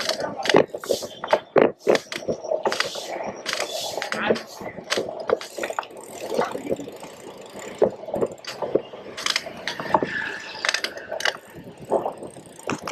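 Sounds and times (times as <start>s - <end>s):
street background: 0.0s - 12.9s.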